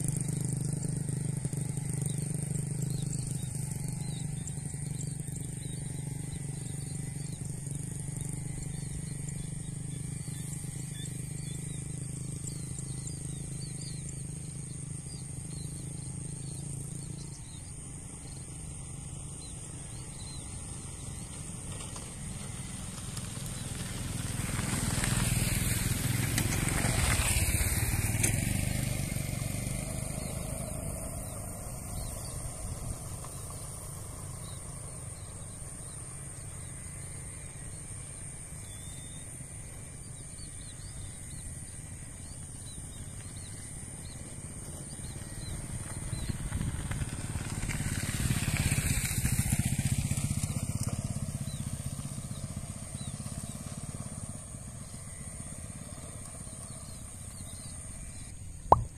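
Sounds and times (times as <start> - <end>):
constant high hiss: 0.0 - 58.9
vehicles passing: 0.0 - 58.9.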